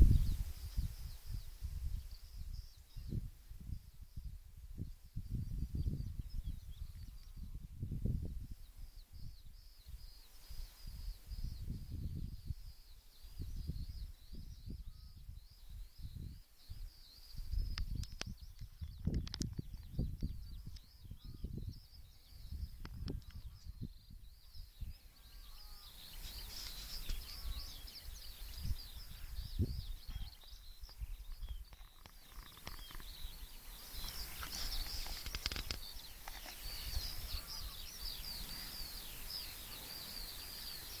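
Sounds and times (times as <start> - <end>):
birds chirping: 0.0 - 41.0
wind rumbling on microphone: 0.0 - 41.0.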